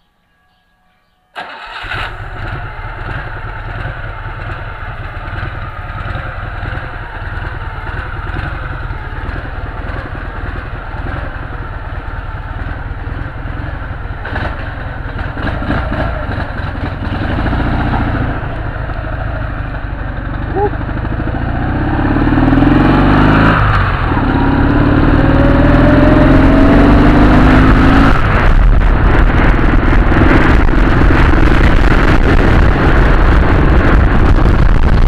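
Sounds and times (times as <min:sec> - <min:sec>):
motorcycle engine running: 0:01.4 - 0:35.0.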